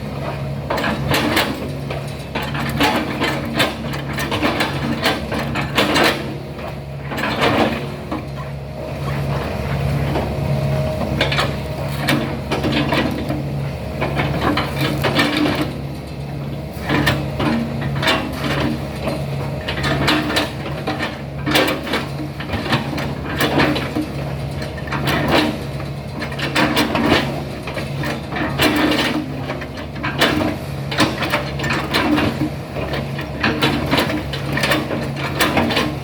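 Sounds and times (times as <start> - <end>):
diesel engine running: 0.0 - 36.0
machine knocks and clanks: 0.1 - 36.0.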